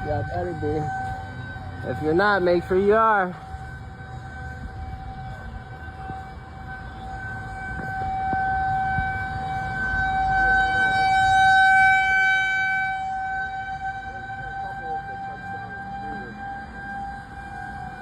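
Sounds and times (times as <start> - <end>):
warning siren wailing: 0.0 - 18.0.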